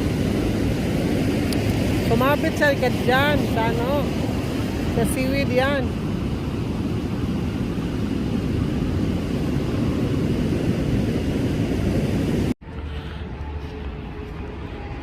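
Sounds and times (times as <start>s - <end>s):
ocean surf roaring: 0.0s - 12.6s
wind on microphone: 0.0s - 15.0s.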